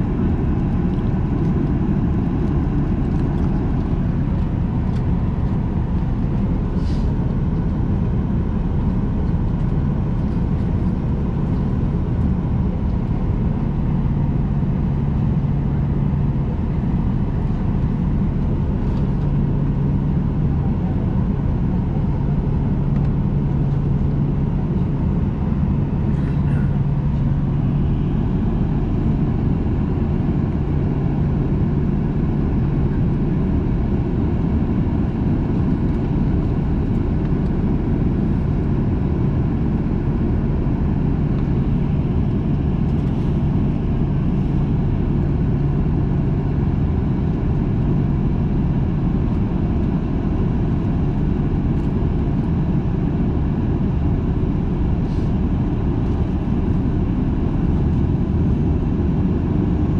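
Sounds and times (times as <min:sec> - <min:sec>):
jet engines idling in cabin: 0:00.0 - 0:59.9.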